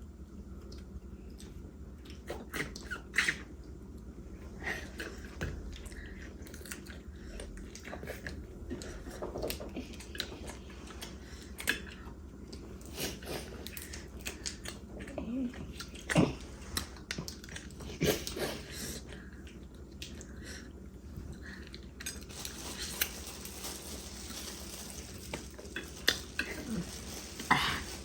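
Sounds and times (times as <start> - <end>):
people chewing and biting: 4.8 - 28.0.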